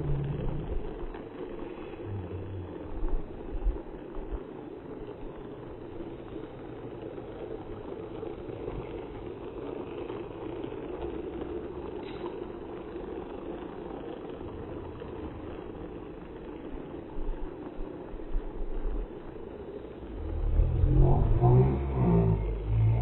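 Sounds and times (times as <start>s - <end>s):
toy train motor whir: 0.0s - 4.4s, 5.0s - 23.0s.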